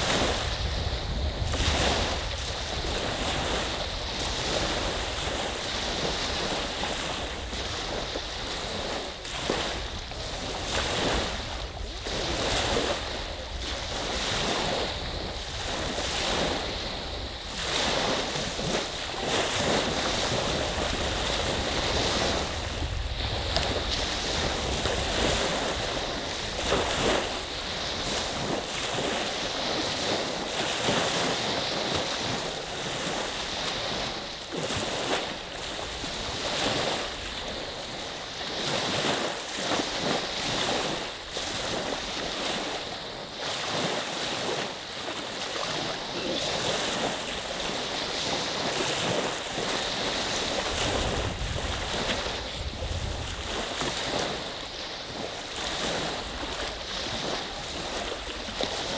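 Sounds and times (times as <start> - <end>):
lake waves splashing on shore: 0.0 - 58.9
wind rumble on microphone: 0.0 - 58.9.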